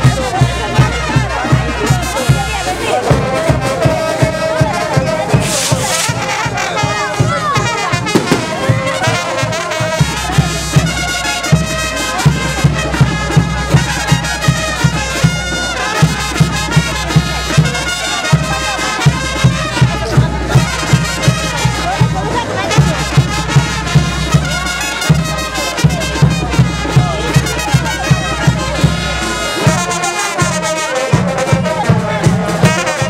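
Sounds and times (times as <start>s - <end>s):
bass drum beat: 0.0s - 33.0s
brass band playing dance music: 0.0s - 33.0s.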